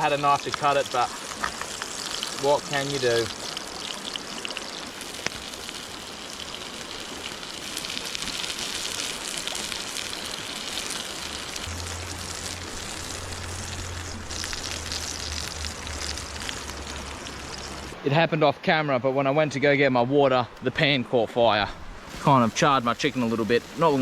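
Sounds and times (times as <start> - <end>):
chicken sizzling in a pan: 0.0 - 18.0, 22.1 - 24.0.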